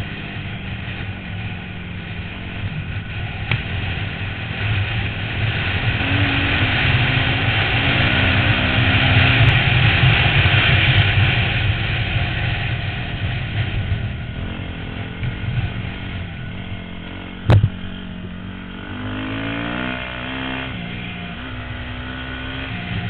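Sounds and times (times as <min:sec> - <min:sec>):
dirt bike engine under throttle: 0:00.0 - 0:23.0.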